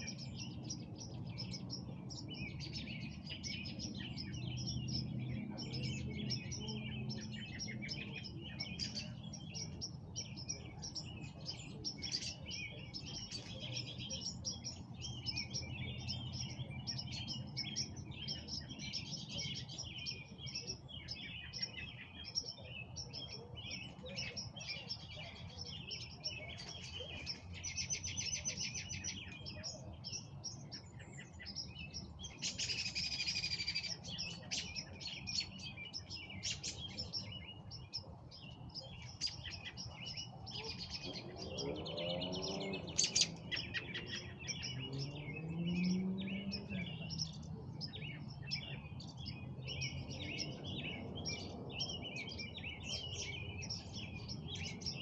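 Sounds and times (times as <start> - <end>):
bird trill: 0.0 - 55.0
songbirds chirping and singing: 0.0 - 55.0.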